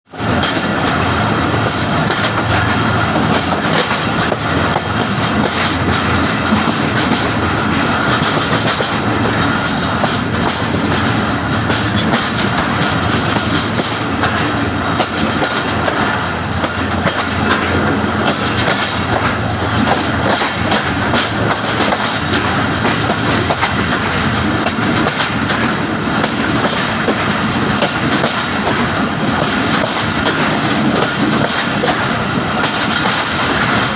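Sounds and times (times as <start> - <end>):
train wheels clattering on rails: 0.1 - 33.9.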